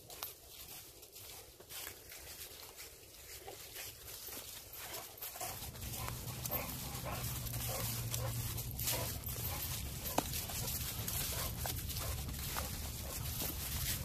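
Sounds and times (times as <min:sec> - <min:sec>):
dog footsteps crunching dry leaves: 0:00.0 - 0:14.0.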